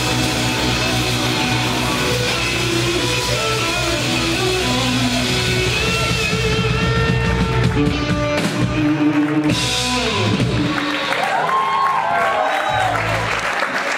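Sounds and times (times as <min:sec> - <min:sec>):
drum kit: 0:00.0 - 0:13.3
electric guitar: 0:00.0 - 0:13.3
bass guitar: 0:00.0 - 0:13.5.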